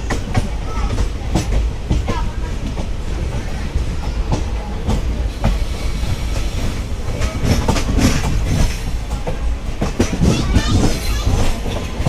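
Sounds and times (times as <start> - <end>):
train wheels rumbling on track: 0.0 - 12.0
wheels clacking over rail joints: 0.0 - 12.0.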